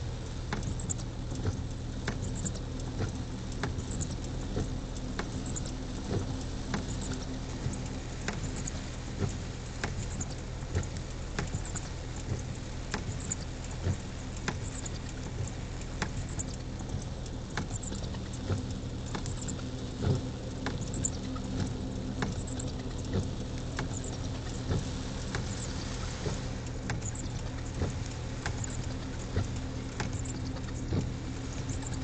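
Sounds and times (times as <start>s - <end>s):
engine humming: 0.0s - 32.0s
rain pattering on vehicle roof: 0.0s - 32.0s.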